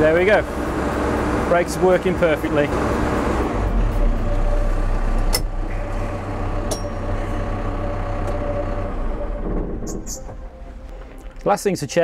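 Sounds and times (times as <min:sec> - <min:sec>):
diesel engine running: 0:00.0 - 0:11.7.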